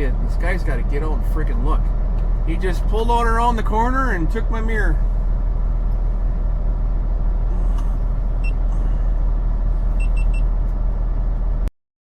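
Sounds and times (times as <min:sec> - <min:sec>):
diesel truck engine idling: 0:00.0 - 0:11.7.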